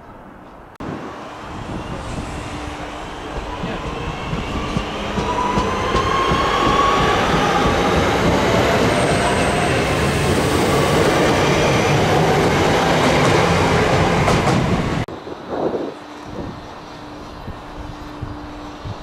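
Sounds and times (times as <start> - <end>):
train passing at speed: 0.2 - 19.0.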